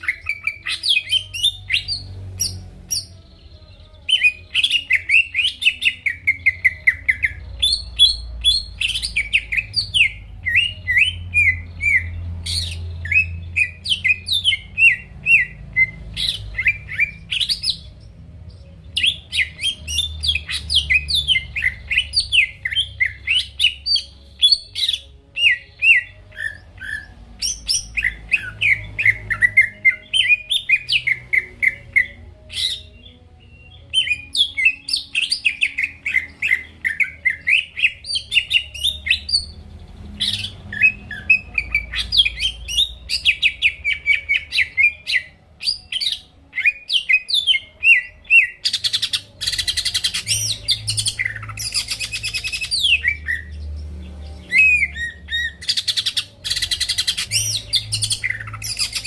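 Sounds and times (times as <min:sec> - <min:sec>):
bird singing chirps and whistles: 0:00.0 - 0:59.0.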